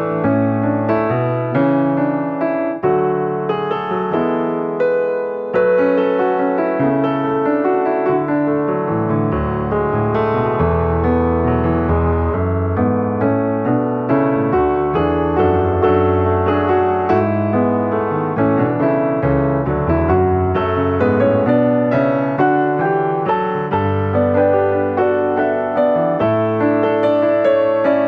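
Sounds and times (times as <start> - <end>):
instrumental music: 0.0 - 28.0.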